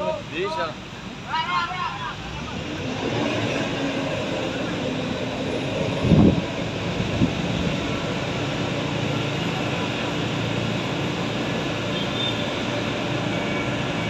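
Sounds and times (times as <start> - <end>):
excavator diesel engine running: 2.5 - 14.0.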